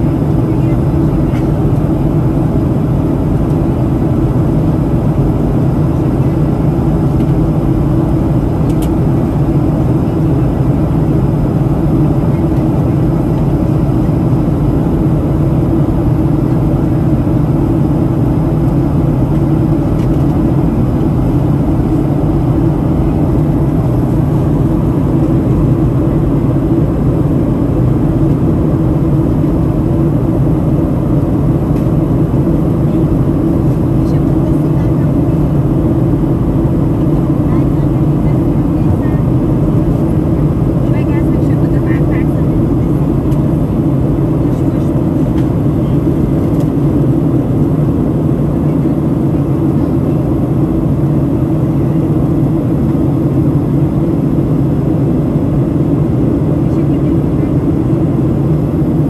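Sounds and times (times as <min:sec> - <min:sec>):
air rushing along fuselage: 0:00.0 - 0:59.0
jet engine drone: 0:00.0 - 0:59.0.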